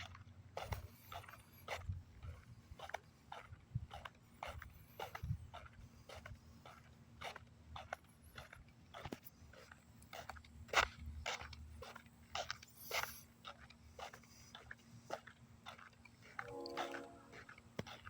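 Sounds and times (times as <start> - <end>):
footsteps scuffing: 0.0 - 18.0.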